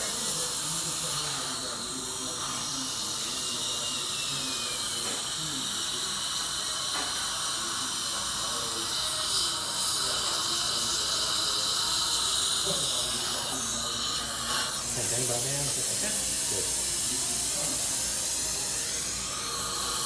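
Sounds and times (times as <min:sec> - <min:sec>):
dental suction and handpiece whine: 0:00.0 - 0:20.0
faint murmured voices: 0:00.0 - 0:20.0.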